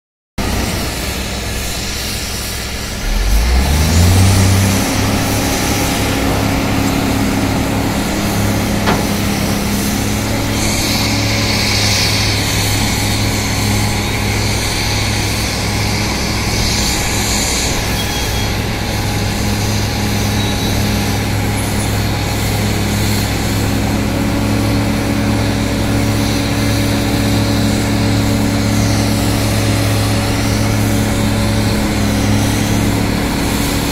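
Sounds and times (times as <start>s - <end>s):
excavator engine revving and droning: 0.4s - 33.9s.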